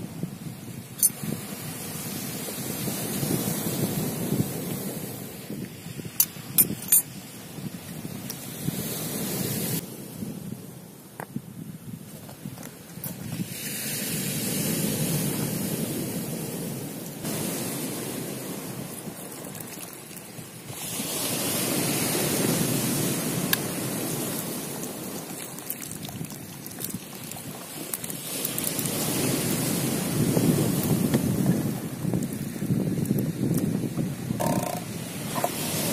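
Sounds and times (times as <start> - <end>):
surf washing on pebble beach: 0.0 - 35.9.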